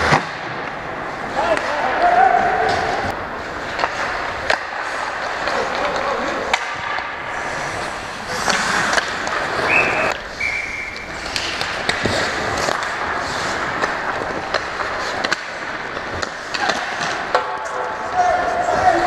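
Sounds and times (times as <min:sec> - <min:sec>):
hockey sticks and puck clacks: 0:00.0 - 0:19.0
skates scraping on ice: 0:00.0 - 0:19.0.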